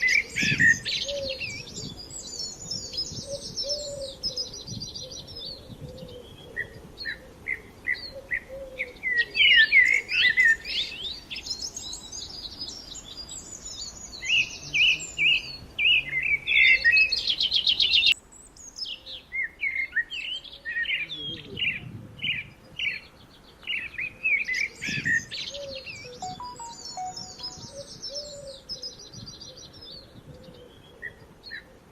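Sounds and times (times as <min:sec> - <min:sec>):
songbirds chirping and trilling: 0:00.0 - 0:31.9.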